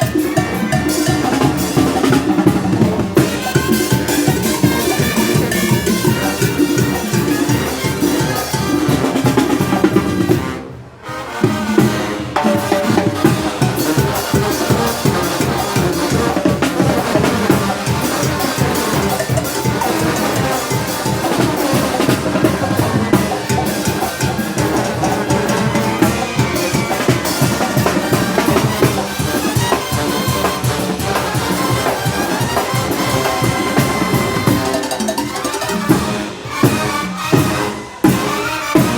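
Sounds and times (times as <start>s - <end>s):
brass band playing: 0.0s - 38.9s
snare drum: 0.0s - 38.9s.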